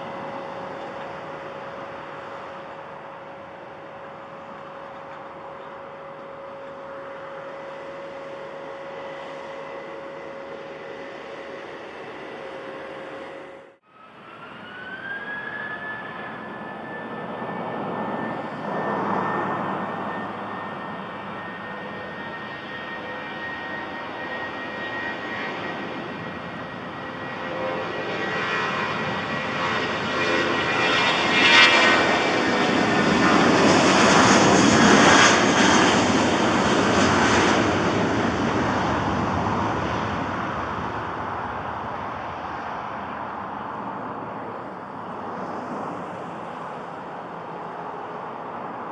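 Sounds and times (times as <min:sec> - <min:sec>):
jet engine whine: 0:00.0 - 0:48.9.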